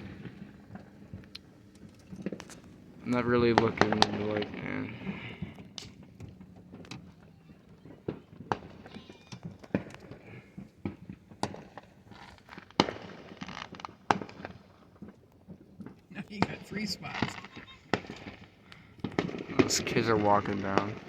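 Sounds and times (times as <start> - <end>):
distant fireworks popping and banging: 0.0 - 21.0.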